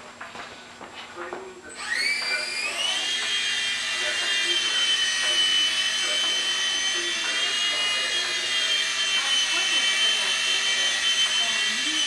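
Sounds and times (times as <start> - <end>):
toy helicopter rotor whine: 1.7 - 12.0.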